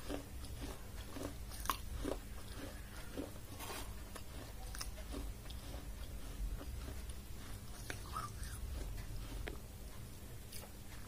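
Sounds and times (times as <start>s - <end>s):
chewing crunches: 0.0s - 11.0s
low steady hum: 0.0s - 11.0s.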